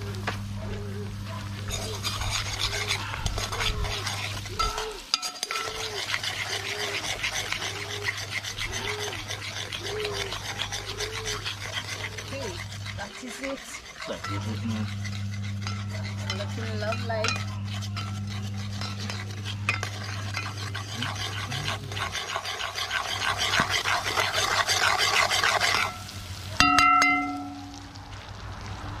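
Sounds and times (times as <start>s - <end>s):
butter sizzling: 0.0s - 29.0s
low steady hum: 0.0s - 29.0s
metal spoon scraping pot: 1.6s - 27.6s.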